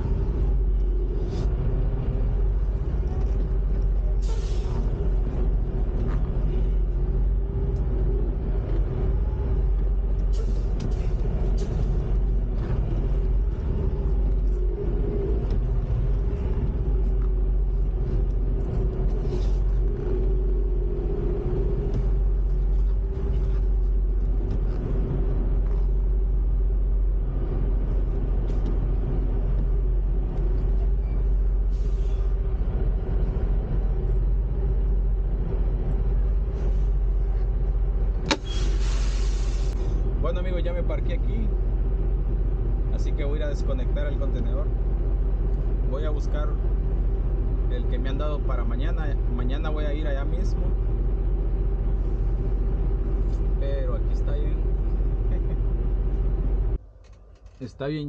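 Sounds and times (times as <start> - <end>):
constant hum: 0.0 - 58.0
diesel engine rumbling: 0.0 - 58.0.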